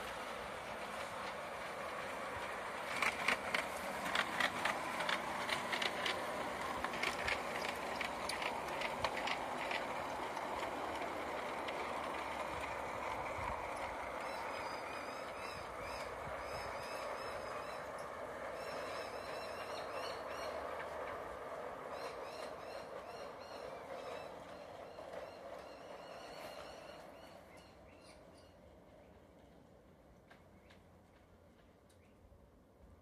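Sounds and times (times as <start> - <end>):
model train wheels clicking: 0.0 - 28.3
train rolling on track: 0.0 - 33.0.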